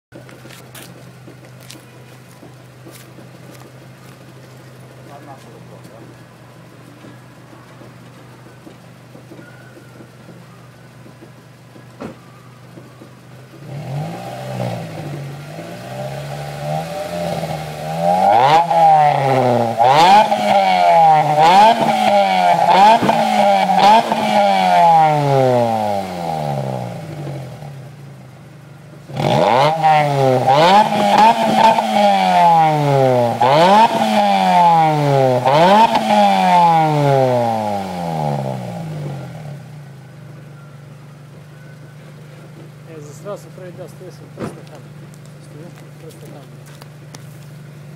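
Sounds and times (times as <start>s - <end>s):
car engine idling and revving: 0.1s - 47.9s.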